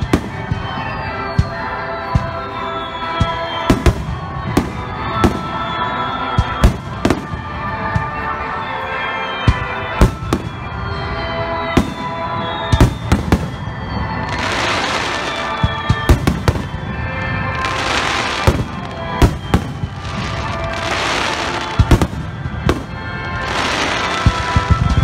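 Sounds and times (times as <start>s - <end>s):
crackling fireworks: 0.0s - 25.0s.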